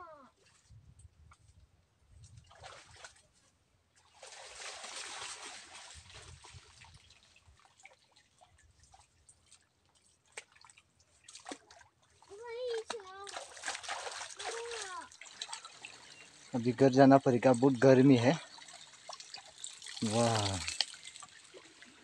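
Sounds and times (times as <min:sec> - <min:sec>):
muddy water sloshing: 0:00.1 - 0:22.0.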